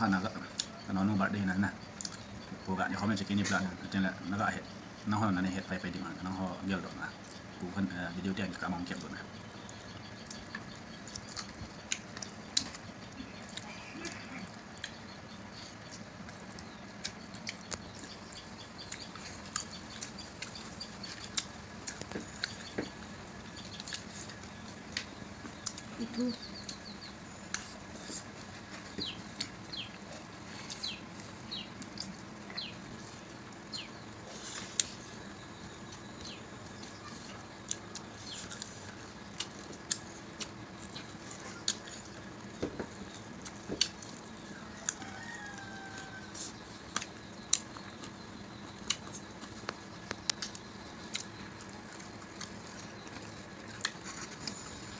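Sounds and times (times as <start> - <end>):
steady low hum: 0.0 - 54.9
chewing and smacking: 1.8 - 2.7, 9.4 - 54.9.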